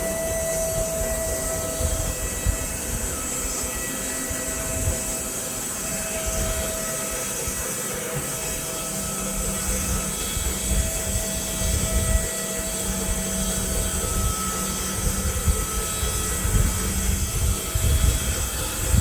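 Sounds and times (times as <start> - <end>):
bandsaw mill cutting log: 0.0 - 19.0.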